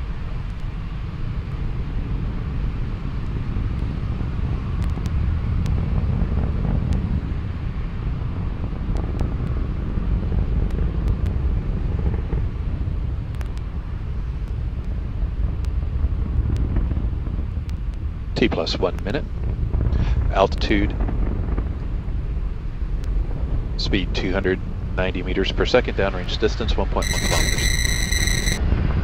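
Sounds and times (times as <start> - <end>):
rocket engines rumbling: 0.0 - 28.9.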